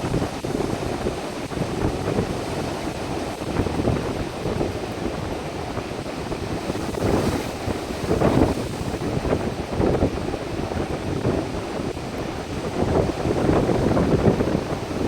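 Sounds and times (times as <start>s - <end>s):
sea waves washing on beach: 0.0s - 15.0s
wind buffeting microphone: 0.0s - 15.0s.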